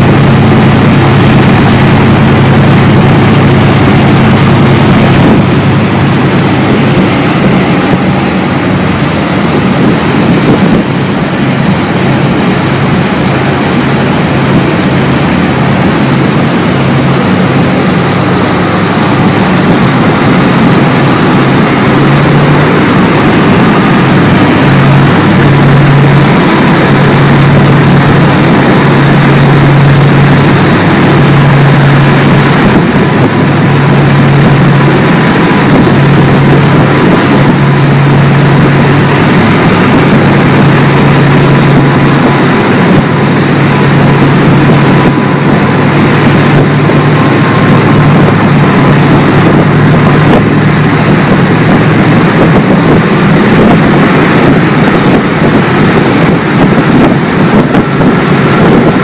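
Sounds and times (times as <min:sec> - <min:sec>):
churning wake rushing: 0:00.0 - 0:59.0
diesel engines droning: 0:00.0 - 0:59.0.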